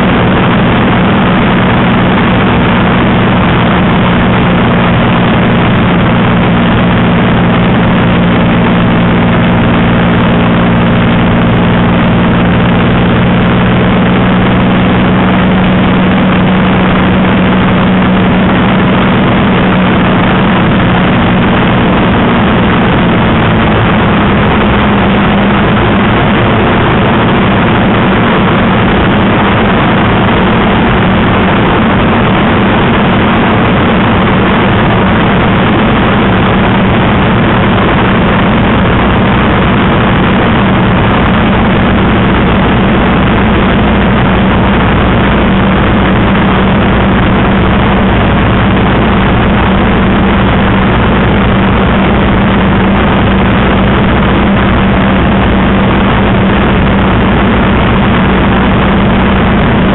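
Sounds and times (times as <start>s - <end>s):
aircraft piston engine drone: 0.0s - 59.9s
rushing slipstream: 0.0s - 59.9s.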